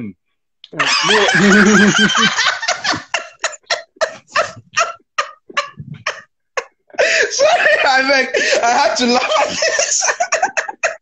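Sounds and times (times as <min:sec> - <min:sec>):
man laughing heartily: 0:00.8 - 0:11.0.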